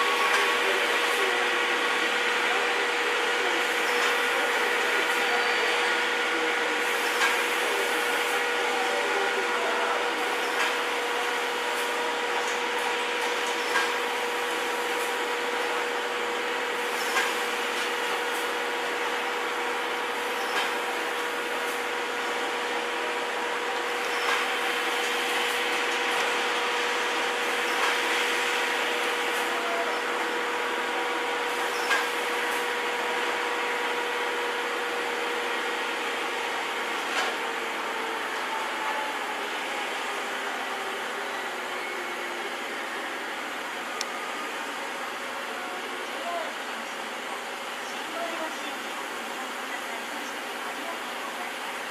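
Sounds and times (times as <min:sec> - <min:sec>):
steam locomotive hissing: 0:00.0 - 0:51.9.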